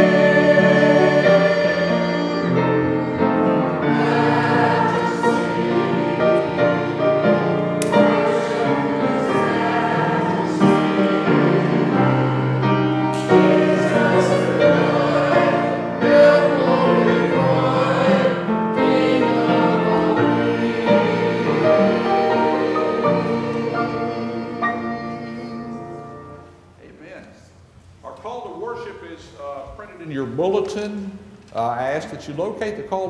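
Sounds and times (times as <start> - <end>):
choir singing a hymn: 0.0 - 26.6.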